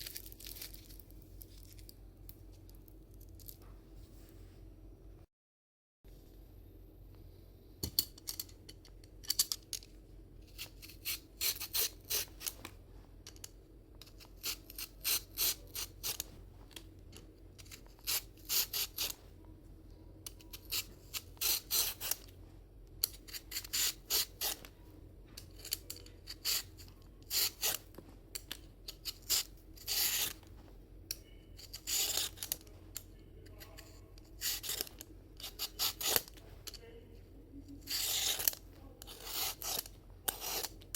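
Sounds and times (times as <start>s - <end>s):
faint hum: 0.0s - 5.3s, 6.1s - 40.9s.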